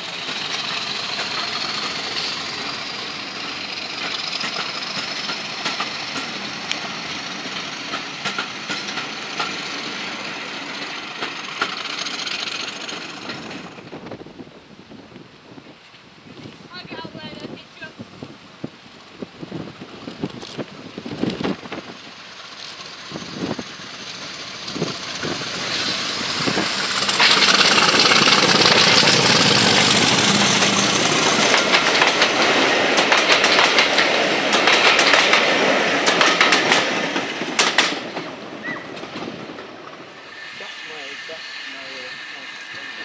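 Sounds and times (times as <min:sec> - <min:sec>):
train wheels clicking over rail joints: 0:00.0 - 0:14.2, 0:19.8 - 0:43.0
diesel locomotive engine passing: 0:00.0 - 0:15.5, 0:16.7 - 0:43.0.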